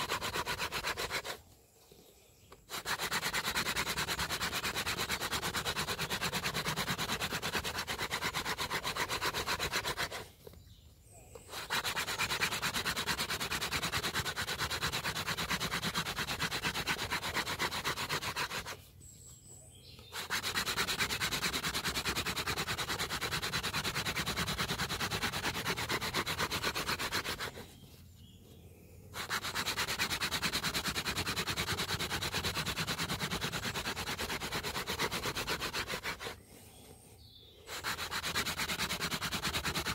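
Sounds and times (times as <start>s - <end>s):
wood-on-wood rubbing: 0.0s - 1.4s, 2.5s - 10.6s, 11.4s - 18.8s, 20.1s - 28.0s, 29.2s - 36.4s, 37.7s - 39.9s.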